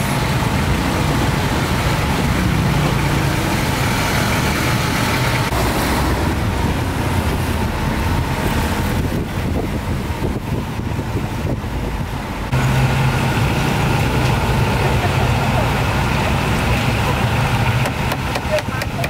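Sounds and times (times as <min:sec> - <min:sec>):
steady engine hum: 0:00.0 - 0:19.0
street traffic: 0:00.0 - 0:19.0.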